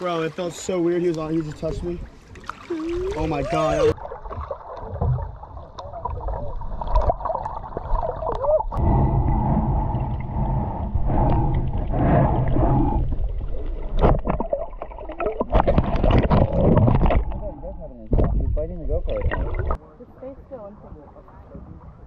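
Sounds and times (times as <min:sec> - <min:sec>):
water churning and gurgling underwater: 0:00.0 - 0:19.8.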